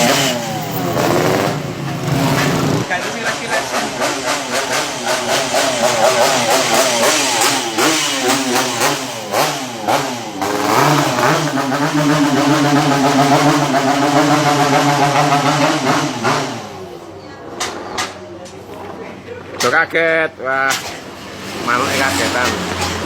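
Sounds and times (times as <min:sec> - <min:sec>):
motorcycle engine revving: 0:00.0 - 0:17.2, 0:21.0 - 0:23.0.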